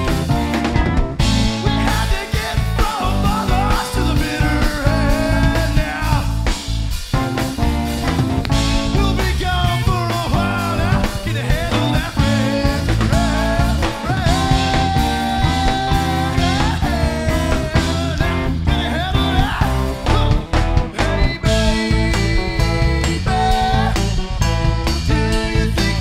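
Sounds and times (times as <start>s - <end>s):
bass guitar: 0.0s - 26.0s
bending lead melody: 0.0s - 26.0s
drums: 0.0s - 26.0s
electric guitar: 0.0s - 26.0s.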